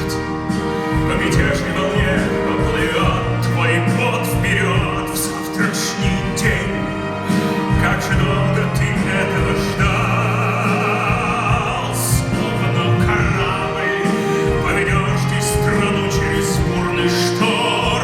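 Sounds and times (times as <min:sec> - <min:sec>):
theatre orchestra playing: 0:00.0 - 0:18.0.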